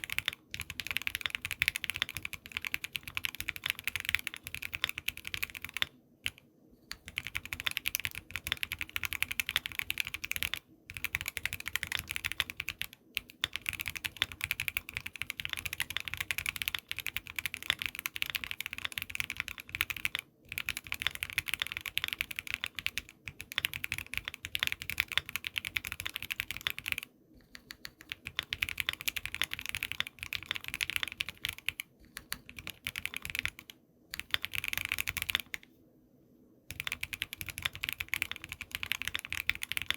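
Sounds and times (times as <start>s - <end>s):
mechanical keyboard typing: 0.0s - 35.6s, 36.7s - 39.9s.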